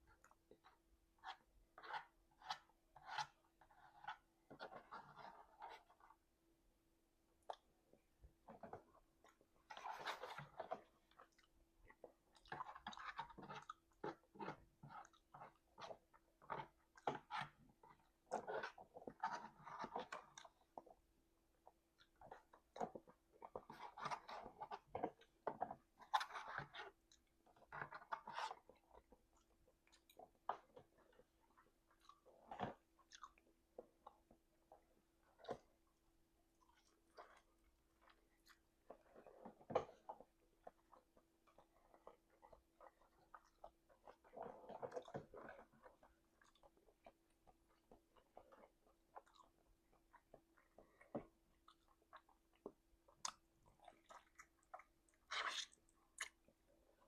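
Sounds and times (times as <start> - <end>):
person chewing messily: 8.6 - 57.0.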